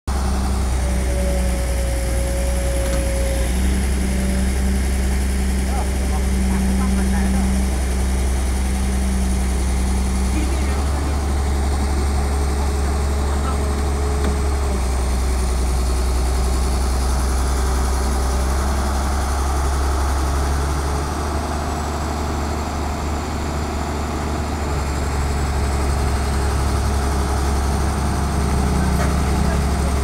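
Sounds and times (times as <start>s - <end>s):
excavator diesel engine droning: 0.1s - 30.0s.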